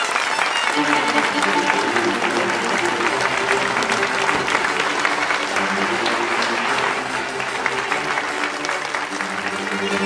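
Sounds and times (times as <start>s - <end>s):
audience applauding: 0.0s - 10.0s
music playing: 0.6s - 10.0s.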